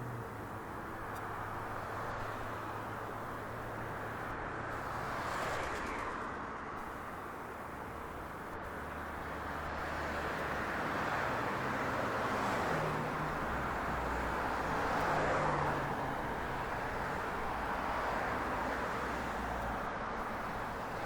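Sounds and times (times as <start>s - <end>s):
distant vehicle noise: 0.0s - 21.0s.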